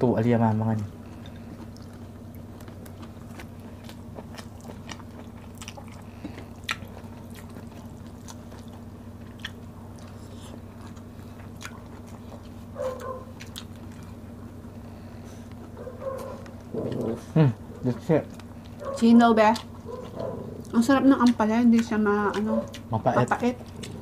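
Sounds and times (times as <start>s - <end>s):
steady low hum: 0.0s - 24.0s
wet chewing: 0.6s - 24.0s.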